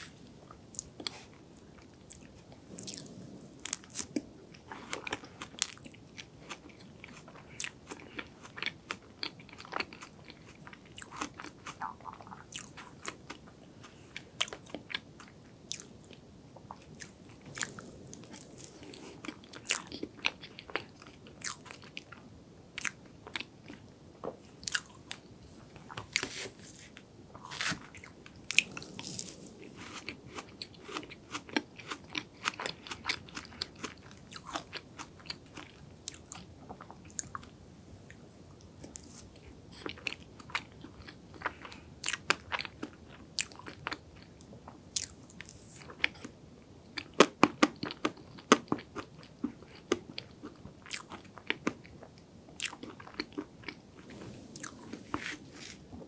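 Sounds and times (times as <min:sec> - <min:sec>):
soft chewing: 0:00.0 - 0:56.0.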